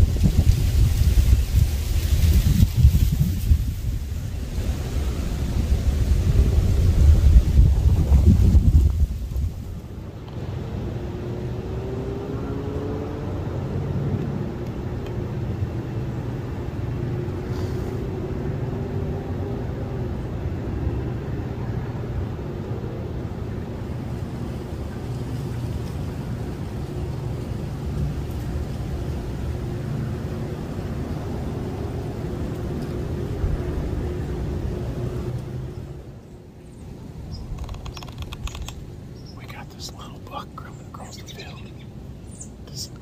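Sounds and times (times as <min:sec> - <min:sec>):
distant engine rumble: 0:00.0 - 0:43.0.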